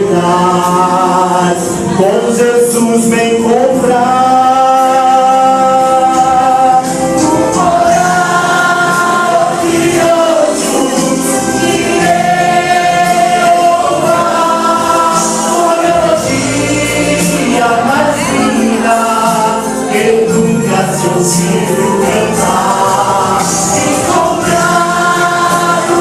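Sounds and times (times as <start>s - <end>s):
gospel group singing in harmony: 0.0s - 26.0s
musical accompaniment: 0.0s - 26.0s.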